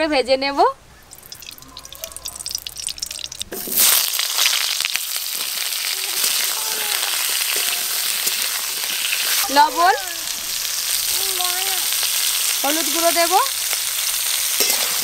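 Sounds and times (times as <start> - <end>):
vegetables sizzling in hot oil: 1.1 - 15.0.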